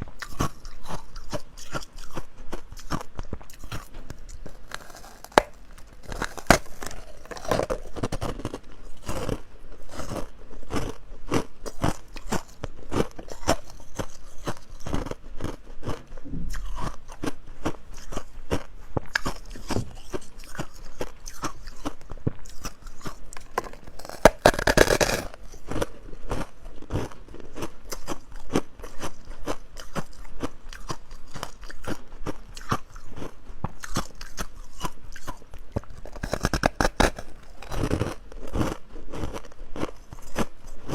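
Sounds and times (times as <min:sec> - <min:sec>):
person chewing ice crunching: 0:00.0 - 0:40.9.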